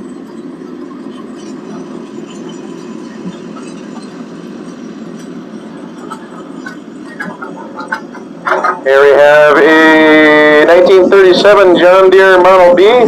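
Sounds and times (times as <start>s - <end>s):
old tractor engine rumbling: 0.0s - 13.0s.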